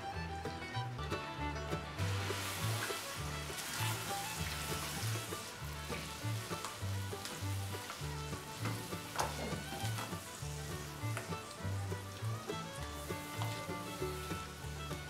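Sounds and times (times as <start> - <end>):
soft background music: 0.0 - 15.0
chicken sizzling in a wok: 2.0 - 15.0.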